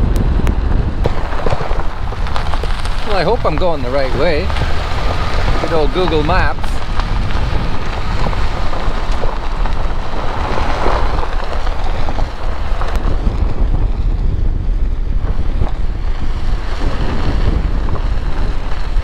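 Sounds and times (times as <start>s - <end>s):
tyres on gravel road: 0.0s - 19.0s
wind buffeting microphone: 0.0s - 19.0s.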